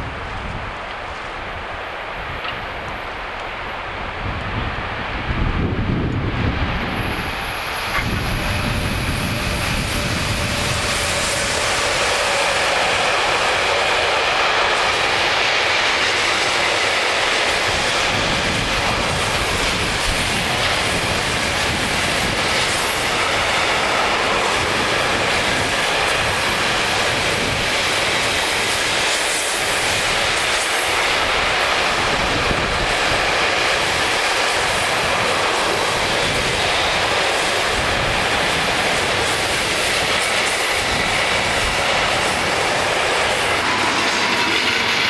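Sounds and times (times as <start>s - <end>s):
steel wheels on rail: 0.0s - 45.0s.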